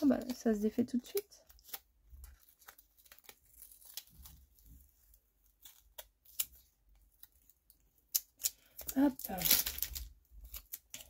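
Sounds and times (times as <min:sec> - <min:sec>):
paper sticker roll crinkling: 0:00.0 - 0:11.0.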